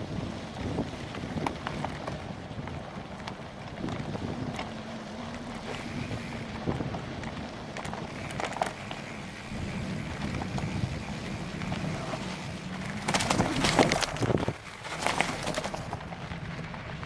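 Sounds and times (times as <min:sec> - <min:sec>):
wind on camera microphone: 0:00.0 - 0:04.8, 0:05.6 - 0:17.0
bicycle clicks and rattles: 0:00.0 - 0:17.0
tyres rolling over uneven path: 0:00.0 - 0:17.0.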